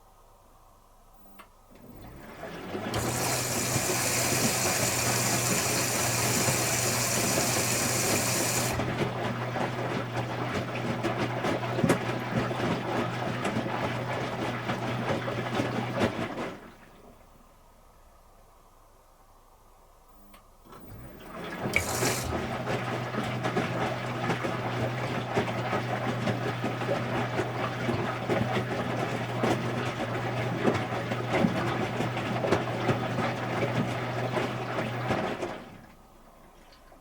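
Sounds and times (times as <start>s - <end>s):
washing machine hum: 0.0s - 37.0s.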